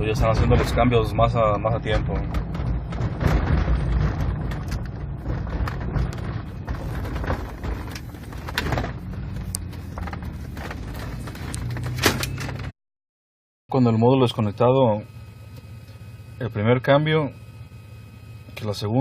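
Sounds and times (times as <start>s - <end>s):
car engine and road noise: 0.0s - 12.8s, 13.8s - 19.0s.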